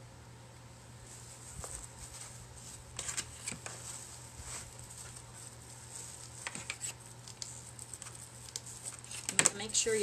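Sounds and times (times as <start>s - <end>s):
steady low hum: 0.0s - 10.0s
fabric and plastic crinkling: 1.0s - 10.0s.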